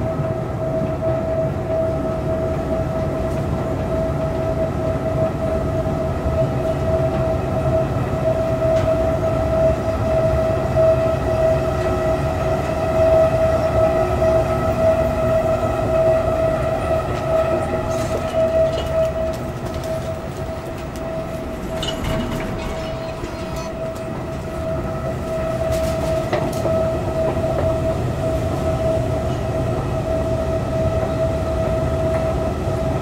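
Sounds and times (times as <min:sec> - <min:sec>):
escalator low rumble: 0:00.0 - 0:33.0
escalator whining hum: 0:00.0 - 0:33.0.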